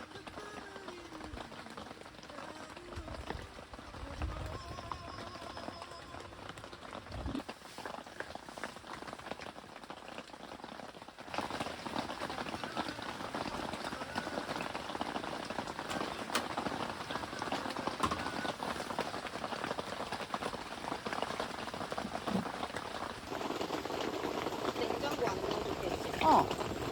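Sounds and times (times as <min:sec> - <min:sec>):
broth boiling and bubbling: 0:00.0 - 0:26.9.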